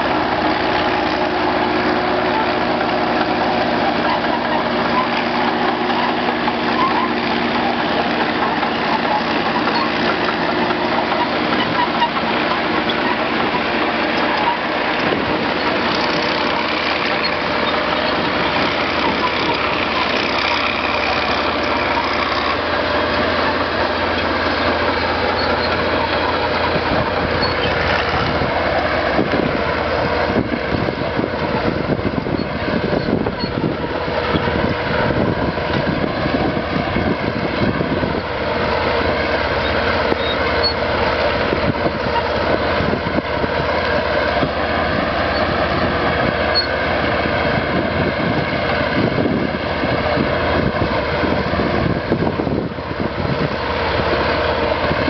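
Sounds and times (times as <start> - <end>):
clatter of tracks and plough: 0.0 - 55.0
diesel tractor engine under load: 0.0 - 55.0.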